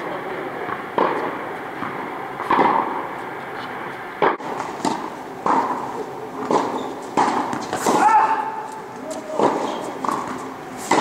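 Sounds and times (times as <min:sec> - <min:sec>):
racket hitting tennis ball: 0:00.6 - 0:03.1, 0:04.2 - 0:11.0.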